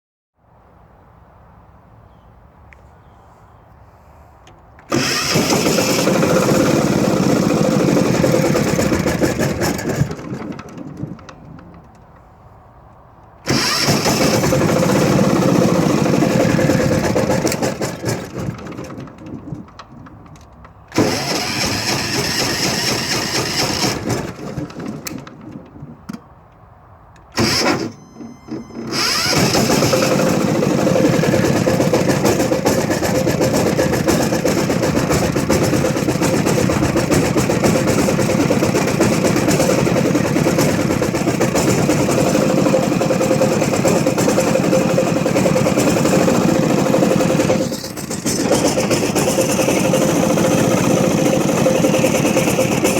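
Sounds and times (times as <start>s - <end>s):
diesel generator engine starting: 4.8s - 12.2s, 13.4s - 26.3s, 27.2s - 52.9s.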